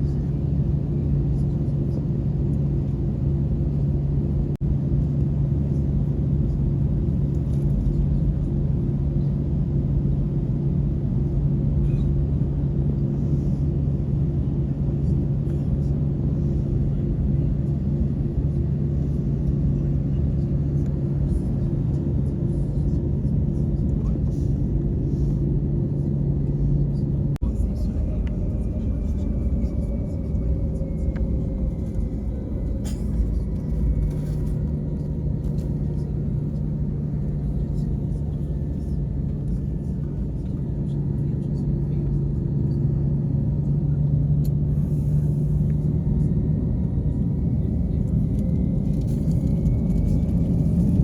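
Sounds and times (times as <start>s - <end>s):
airliner cabin engine drone: 0.0s - 51.0s.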